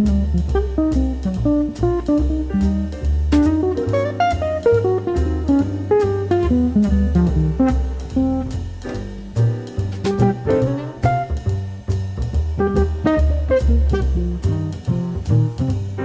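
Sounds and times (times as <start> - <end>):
bass line: 0.0 - 16.0
jazz guitar melody: 0.0 - 16.0.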